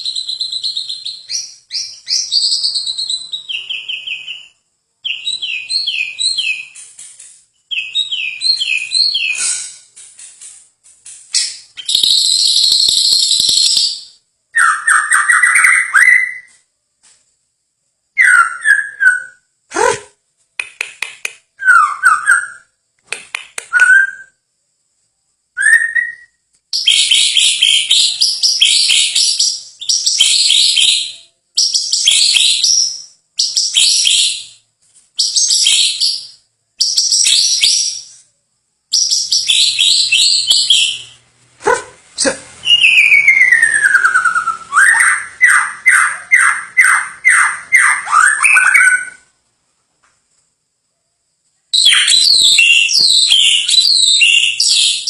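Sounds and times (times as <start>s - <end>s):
songbird singing: 0.0s - 10.5s, 11.3s - 16.6s, 18.1s - 24.5s, 25.5s - 38.3s, 38.9s - 49.4s, 51.5s - 55.0s.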